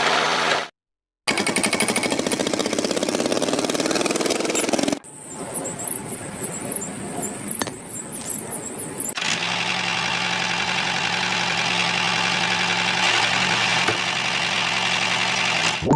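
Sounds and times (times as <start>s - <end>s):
small engine running: 1.3s - 15.9s.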